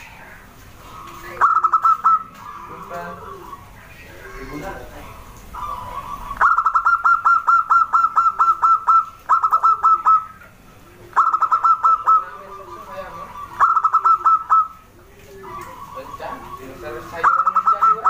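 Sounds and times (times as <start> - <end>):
dove calling rapid notes: 0.0 - 18.0
soft dove coos: 0.0 - 18.0.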